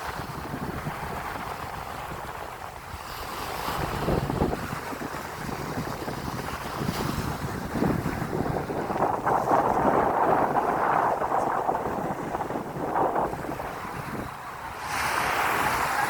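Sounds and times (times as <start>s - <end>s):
sea surf washing in: 0.0s - 16.0s
wind buffeting microphone: 0.0s - 16.0s.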